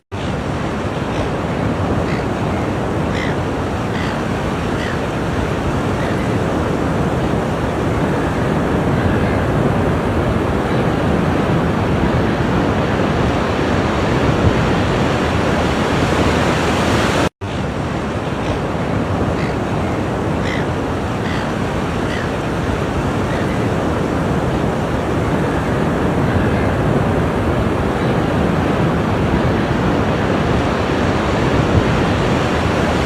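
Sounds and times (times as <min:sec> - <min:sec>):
ocean surf washing on shore: 0:00.1 - 0:33.0.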